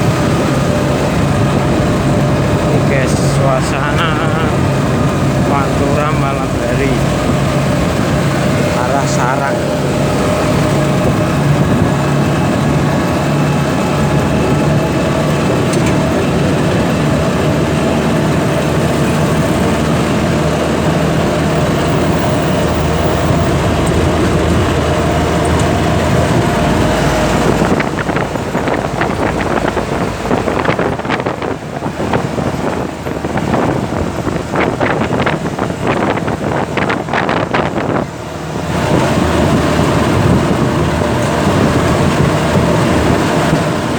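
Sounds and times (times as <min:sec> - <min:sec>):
gusty crackling noise: 0:00.0 - 0:43.9
road noise: 0:00.0 - 0:43.9
vehicle engine running: 0:00.0 - 0:43.9.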